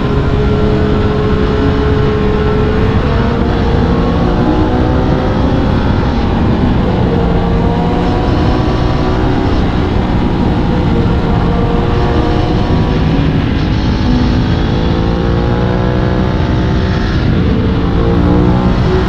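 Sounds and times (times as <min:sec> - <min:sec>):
motorcycle engine running: 0:00.0 - 0:19.0
wind rush: 0:00.0 - 0:19.0.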